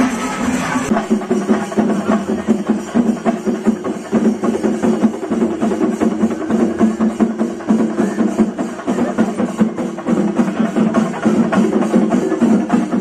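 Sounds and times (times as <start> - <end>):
music with fast drumming: 0.0 - 13.0.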